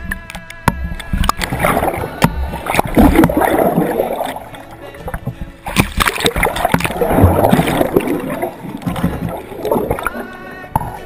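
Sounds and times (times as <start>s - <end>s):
muffled underwater water rushing: 0.7s - 11.0s.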